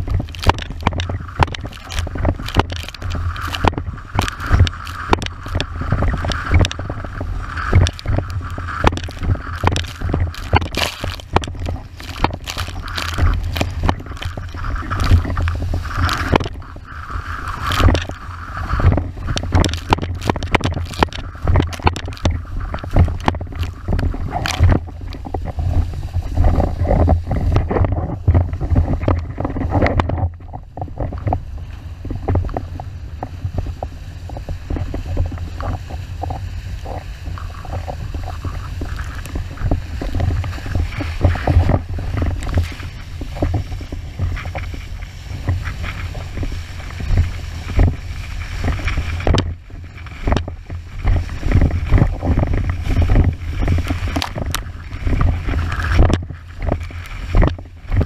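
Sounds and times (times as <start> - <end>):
board hull slapping waves: 0.0 - 58.0
water rushing and spraying: 0.0 - 58.0
wind rumbling on microphone: 0.0 - 58.0.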